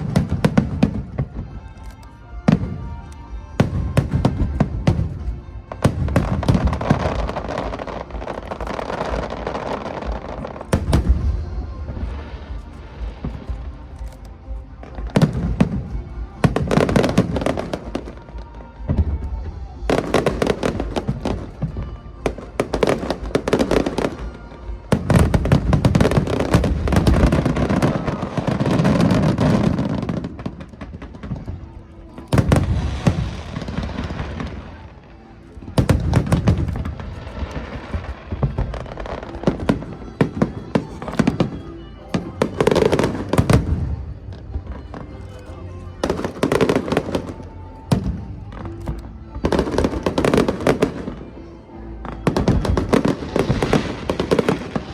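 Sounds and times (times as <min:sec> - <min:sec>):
fireworks bursting and crackling: 0:00.0 - 0:54.9
music playing: 0:00.0 - 0:54.9.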